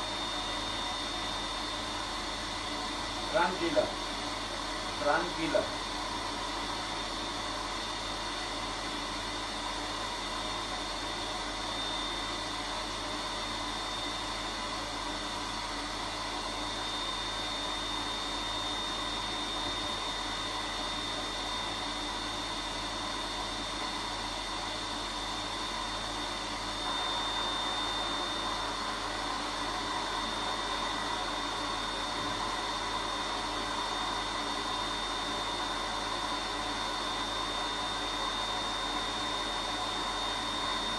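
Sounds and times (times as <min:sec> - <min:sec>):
vacuum cleaner whining: 0:00.0 - 0:40.9.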